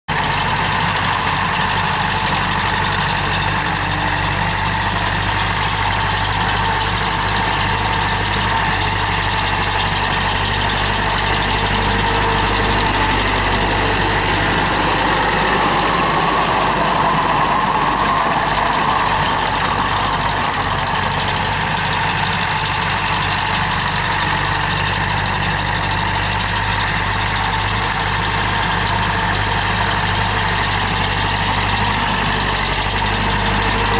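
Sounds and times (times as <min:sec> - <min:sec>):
rotary tiller in dry soil: 0:00.1 - 0:33.9
tractor diesel engine running: 0:00.1 - 0:33.9.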